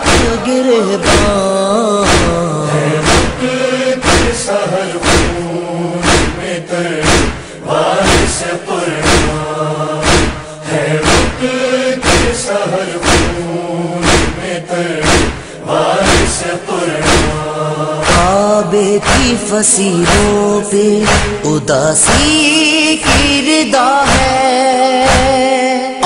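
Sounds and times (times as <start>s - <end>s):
chest-beating thumps: 0.0s - 5.4s, 6.0s - 12.4s, 13.0s - 13.4s, 14.0s - 22.4s, 24.1s - 24.4s, 25.1s - 25.4s
chorus chanting: 0.0s - 25.4s.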